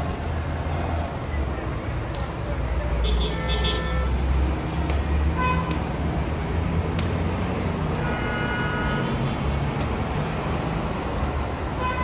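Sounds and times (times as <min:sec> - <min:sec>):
passing vehicle engines rumbling: 0:00.0 - 0:12.0.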